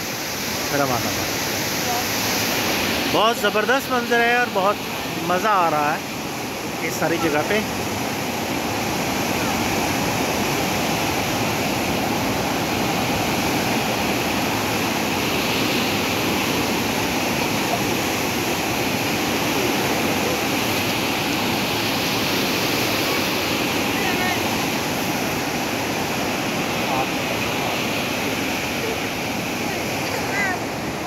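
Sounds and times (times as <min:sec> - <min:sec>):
turbulent water rushing: 0:00.0 - 0:31.0.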